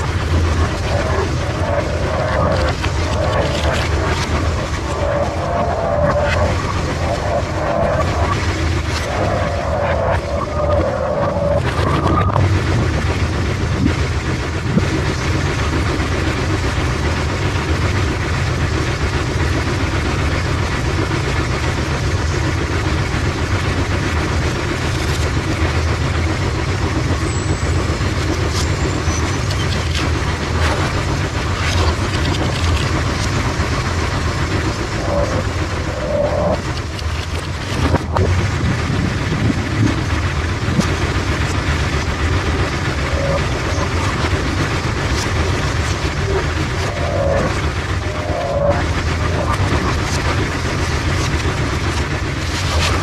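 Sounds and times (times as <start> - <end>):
pinsetter mechanical rumble: 0.0 - 53.0.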